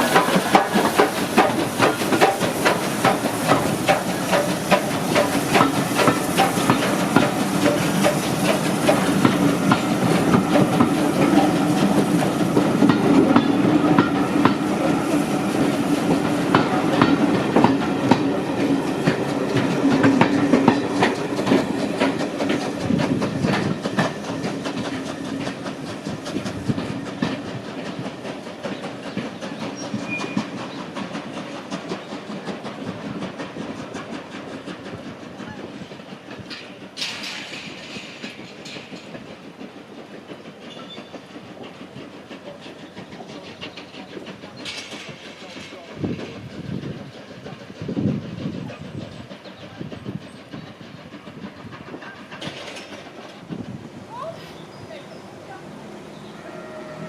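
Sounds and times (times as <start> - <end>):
train clattering on rails: 0.0 - 57.0.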